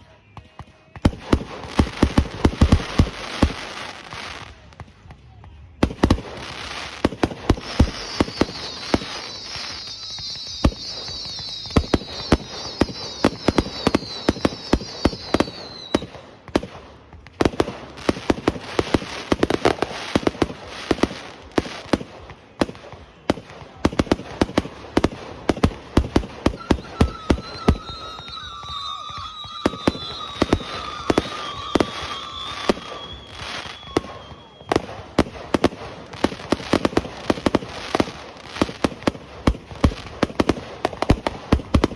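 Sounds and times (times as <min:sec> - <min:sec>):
fireworks bangs and pops: 0:00.0 - 0:41.9
fireworks whistling: 0:01.0 - 0:04.5, 0:05.8 - 0:41.9.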